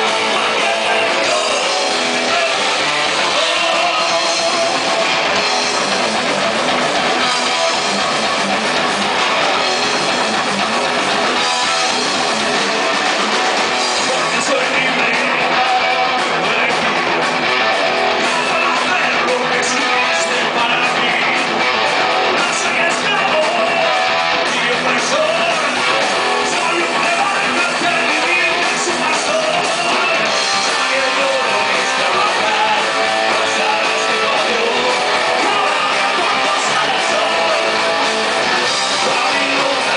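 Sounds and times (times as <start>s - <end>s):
electric guitar: 0.0s - 39.9s
rock band playing live: 0.0s - 39.9s.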